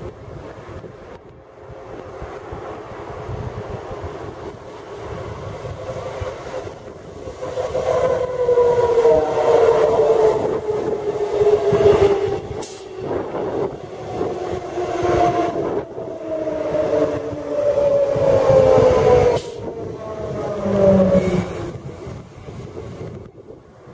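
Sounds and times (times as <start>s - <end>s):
electric train passing: 0.0s - 23.9s.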